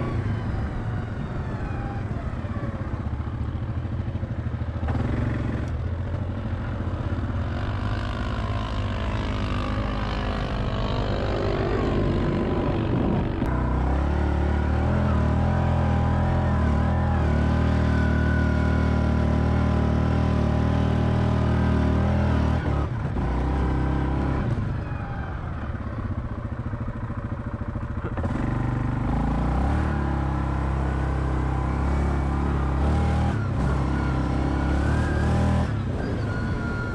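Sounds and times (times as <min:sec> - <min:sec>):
atv engine running: 0:00.0 - 0:36.9.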